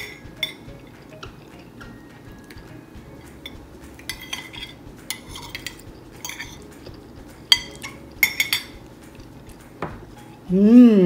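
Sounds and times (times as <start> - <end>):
cutlery clinking on a plate: 0.0 - 10.4.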